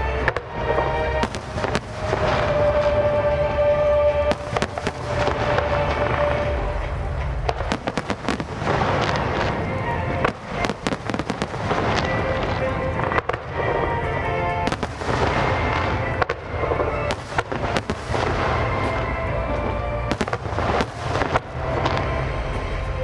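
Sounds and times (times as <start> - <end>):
fireworks bangs: 0.0 - 23.0
fireworks crackling: 0.0 - 23.0
music playing: 0.0 - 23.0.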